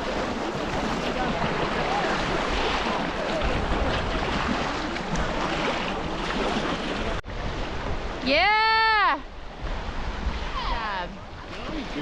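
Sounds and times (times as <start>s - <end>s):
rushing whitewater: 0.0s - 12.0s
wind buffeting microphone: 0.0s - 12.0s.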